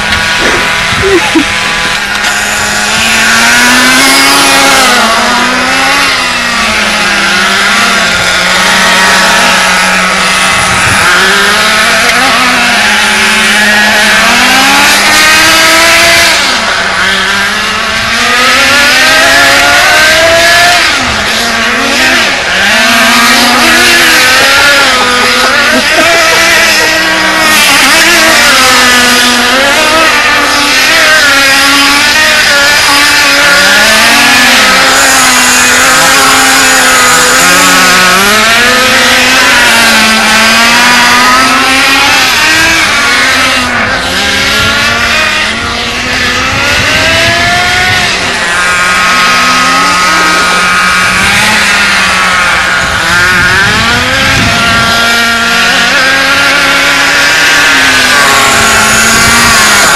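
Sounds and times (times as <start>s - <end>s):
small glow-fuel engines revving: 0.0s - 59.9s.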